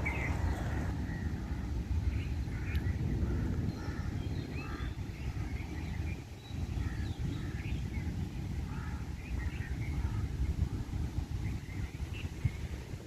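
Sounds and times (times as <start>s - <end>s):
birds chirping: 0.0s - 12.8s
wind buffeting microphone: 0.0s - 13.0s.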